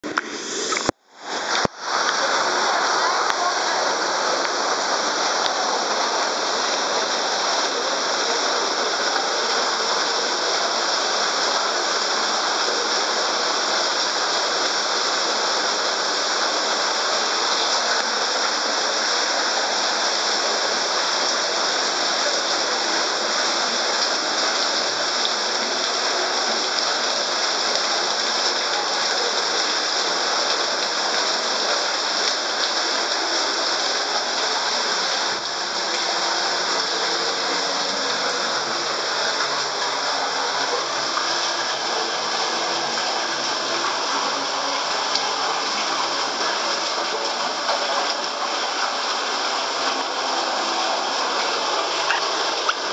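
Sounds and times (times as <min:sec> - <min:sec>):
waterfall pouring into pool: 0:00.0 - 0:52.9.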